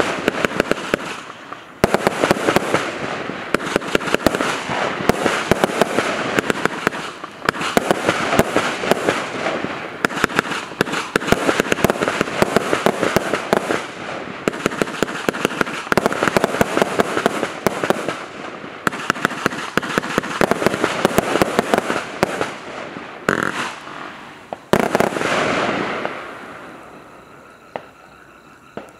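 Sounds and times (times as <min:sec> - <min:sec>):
firework shots and bursts: 0:00.0 - 0:26.8.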